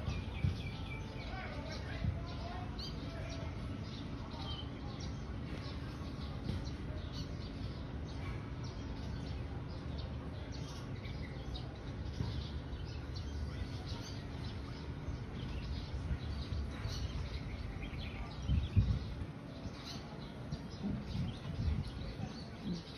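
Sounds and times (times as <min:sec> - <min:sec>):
birds chirping: 0:00.0 - 0:22.9
low background noise: 0:00.0 - 0:22.9.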